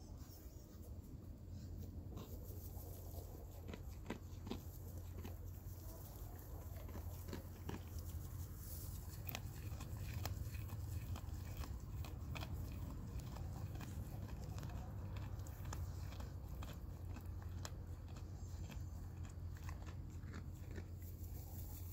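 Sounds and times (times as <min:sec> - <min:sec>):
low steady rumble: 0:00.0 - 0:21.9
goat chewing dry hay: 0:00.2 - 0:21.9.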